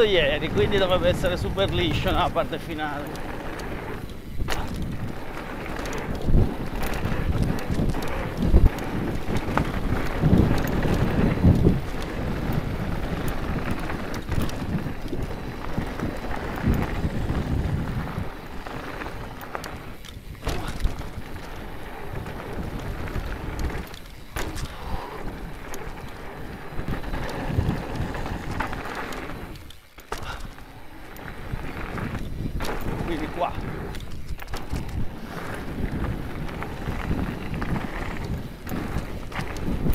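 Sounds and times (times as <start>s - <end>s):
bike clicks and rattles: 0.0s - 39.9s
tyres on loose gravel: 0.0s - 39.9s
wind buffeting microphone: 0.0s - 39.9s.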